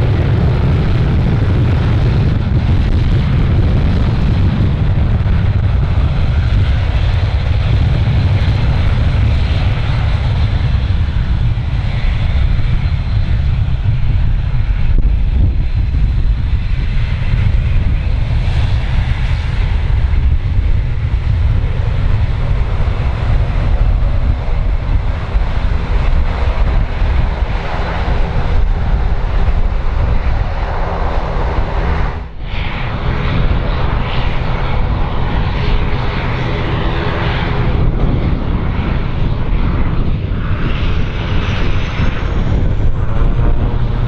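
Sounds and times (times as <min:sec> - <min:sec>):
jet engines running loud: 0:00.0 - 0:44.0
turboprop engines: 0:00.0 - 0:44.0
wind buffeting microphone: 0:00.0 - 0:44.0.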